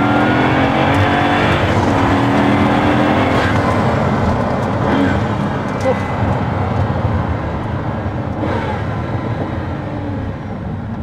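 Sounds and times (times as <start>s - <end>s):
car engine running: 0.0s - 11.0s
tyre and road noise: 0.0s - 11.0s.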